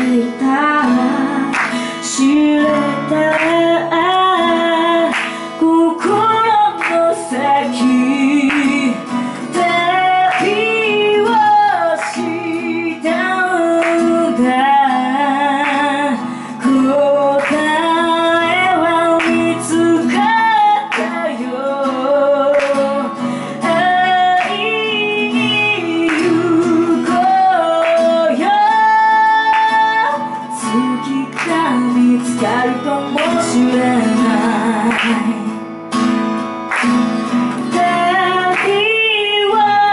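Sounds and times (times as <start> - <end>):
woman singing: 0.0 - 35.8, 37.4 - 39.9
acoustic guitar: 0.0 - 39.9.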